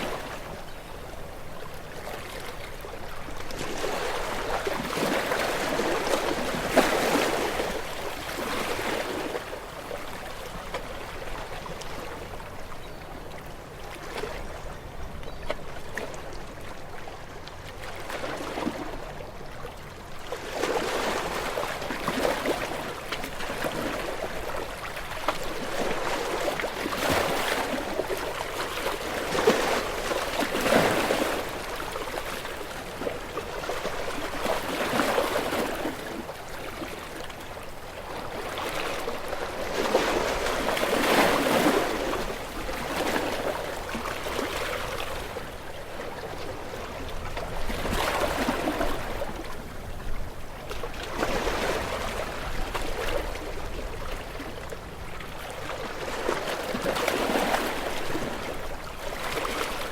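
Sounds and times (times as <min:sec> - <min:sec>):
small waves washing onto shore: 0:00.0 - 0:59.9.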